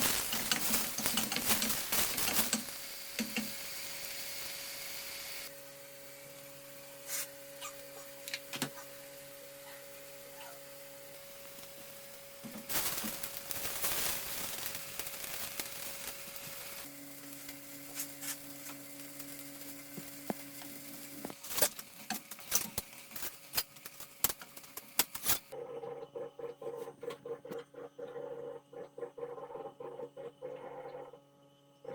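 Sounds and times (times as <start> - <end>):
pork sizzling in a pan: 0.0 - 25.6.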